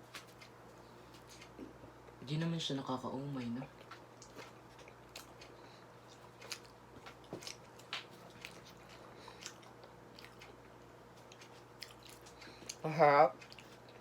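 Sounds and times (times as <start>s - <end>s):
person chewing with wet smacks: 0.1s - 2.2s, 3.3s - 14.0s.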